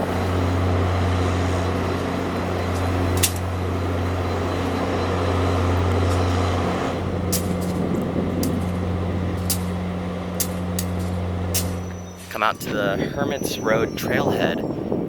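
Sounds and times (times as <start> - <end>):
diesel locomotive idling: 0.0 - 14.8.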